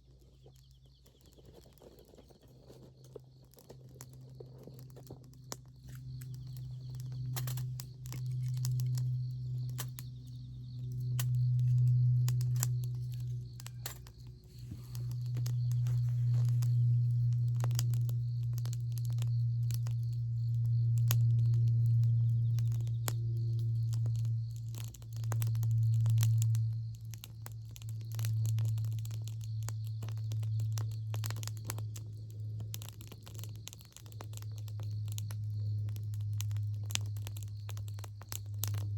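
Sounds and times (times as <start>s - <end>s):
campfire crackling and popping: 0.0s - 38.9s
steady low hum: 0.0s - 38.9s.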